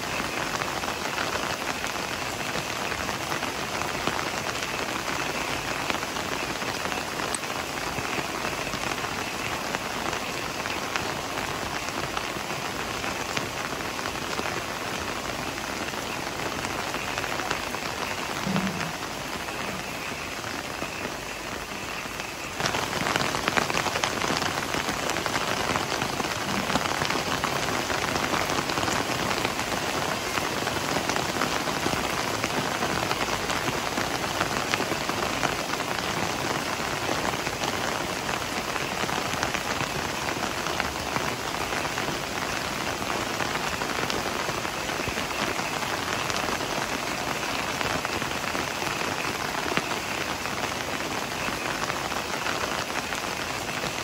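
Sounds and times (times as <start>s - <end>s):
heavy rain on foliage: 0.0s - 54.0s.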